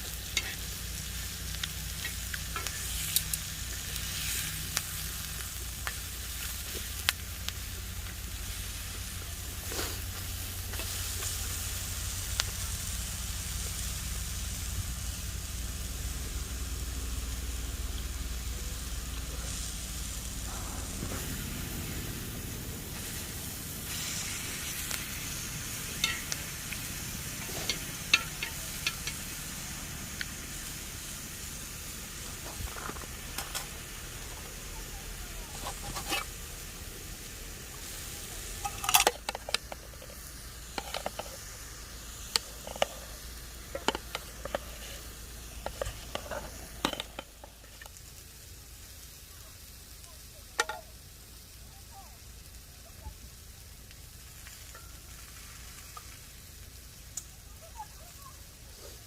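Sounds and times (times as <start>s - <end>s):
food sizzling on a griddle: 0.0s - 59.0s.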